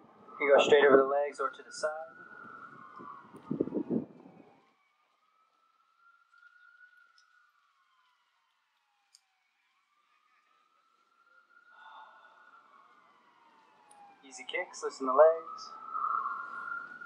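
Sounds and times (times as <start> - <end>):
emergency siren wailing: 0.0 - 17.0.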